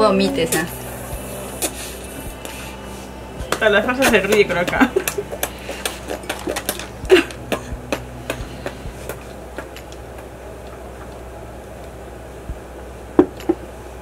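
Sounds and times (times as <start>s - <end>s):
low steady background: 0.0s - 14.0s.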